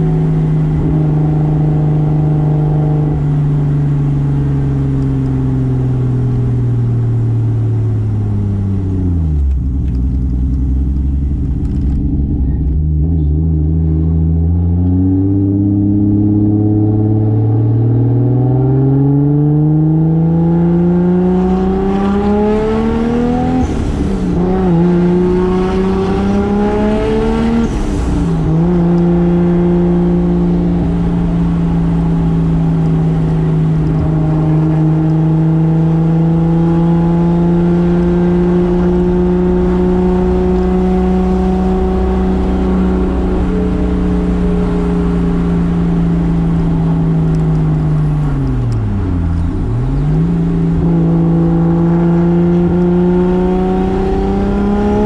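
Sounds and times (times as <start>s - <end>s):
turbo car engine revving: 0.0s - 55.0s.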